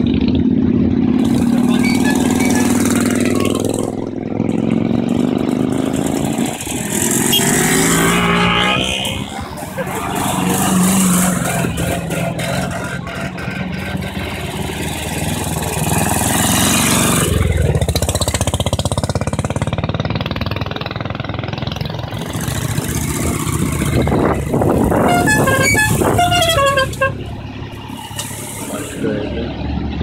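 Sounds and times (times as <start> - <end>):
motorcycle engines running: 0.0 - 30.0.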